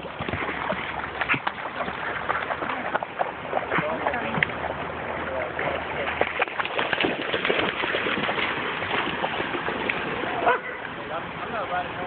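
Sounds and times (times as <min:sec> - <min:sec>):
dog splashing through shallow water: 0:00.0 - 0:11.0.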